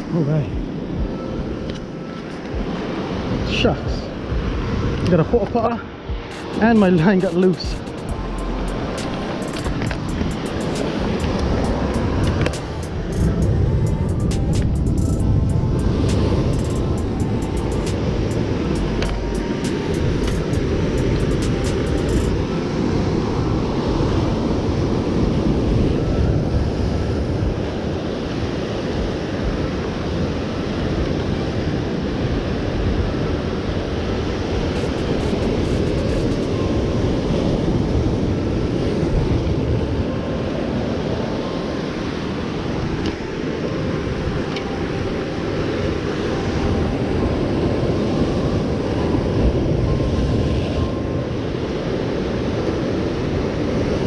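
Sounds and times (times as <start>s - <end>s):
ocean surf breaking on rocks: 0.0s - 54.0s
wind rumbling on microphone: 0.0s - 54.0s.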